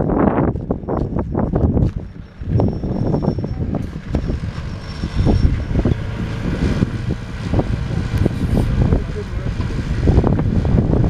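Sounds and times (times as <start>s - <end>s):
fire truck engine rumbling: 0.0s - 11.0s
wind buffeting microphone: 0.0s - 11.0s.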